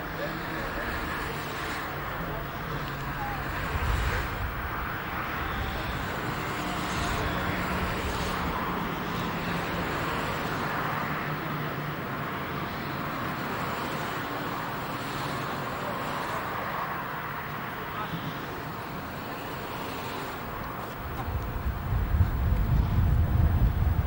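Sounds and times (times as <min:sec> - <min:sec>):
faint low engine hum: 0:00.0 - 0:24.0
road traffic rushing: 0:00.0 - 0:24.0.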